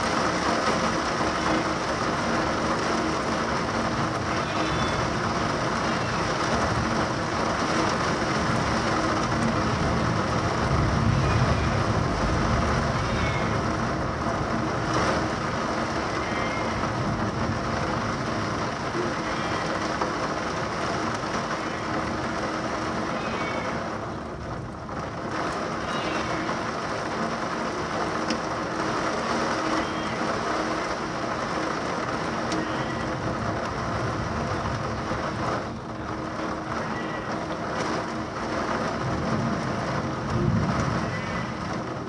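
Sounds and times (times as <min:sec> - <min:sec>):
low thunder rumble: 0:00.0 - 0:29.3, 0:32.1 - 0:42.0
pouring rain: 0:00.0 - 0:42.0
wind: 0:00.0 - 0:42.0.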